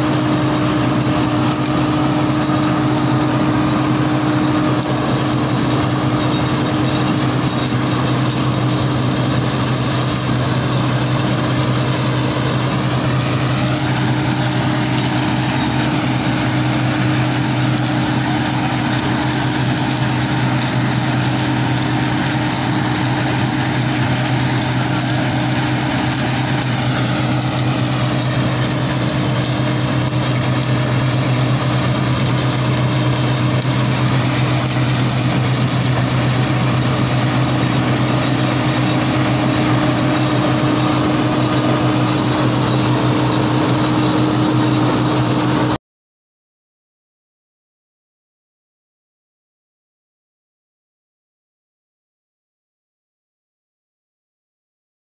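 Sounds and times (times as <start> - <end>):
combine harvester running: 0.0 - 45.8.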